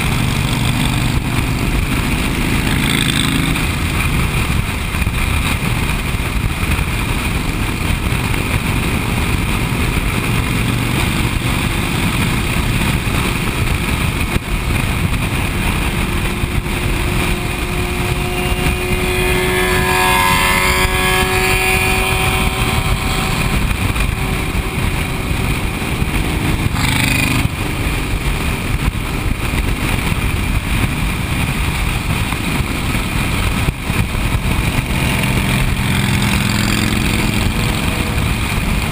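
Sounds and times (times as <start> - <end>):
high-pitched motorcycle engine whine: 0.0 - 38.9
motorcycle engine and road noise: 0.0 - 38.9
wind rushing over microphone: 0.0 - 38.9.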